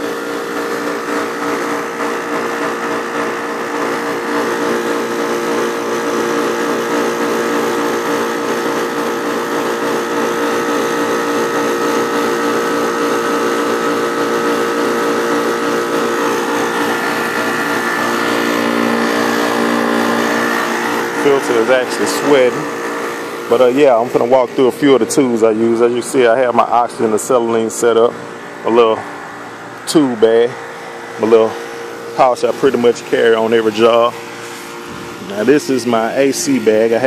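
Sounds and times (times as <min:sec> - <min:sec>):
compressor motor humming and whining: 0:00.0 - 0:37.0.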